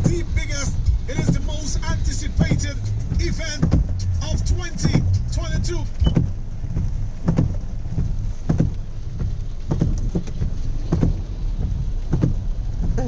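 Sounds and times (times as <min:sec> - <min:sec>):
car engine low rumble: 0:00.0 - 0:13.0
rain on car body: 0:00.0 - 0:13.0
windscreen wipers thumping: 0:00.0 - 0:13.0.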